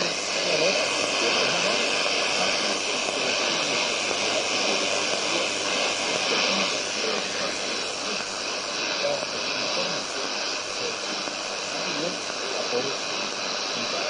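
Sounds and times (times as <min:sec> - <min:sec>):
faint radio programme: 0:00.0 - 0:14.0
radio static and hiss: 0:00.0 - 0:14.0.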